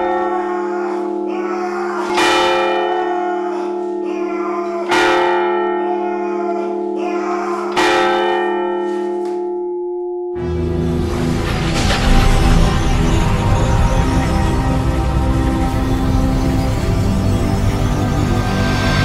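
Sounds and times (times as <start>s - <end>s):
deep bell tolling: 0.0s - 19.0s.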